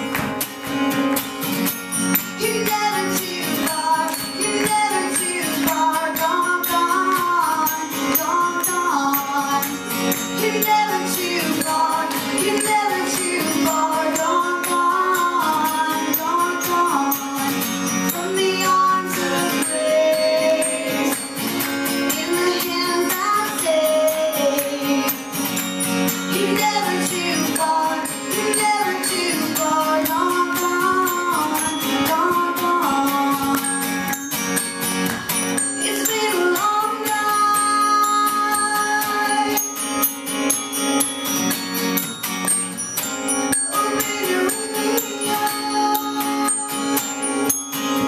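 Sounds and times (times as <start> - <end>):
acoustic guitar playing: 0.0 - 48.0.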